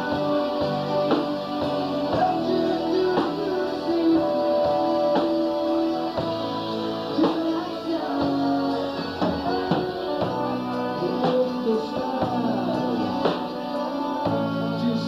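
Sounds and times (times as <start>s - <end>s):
drum kit: 0.0s - 15.0s
electric bass: 0.0s - 15.0s
electric guitar: 0.0s - 15.0s.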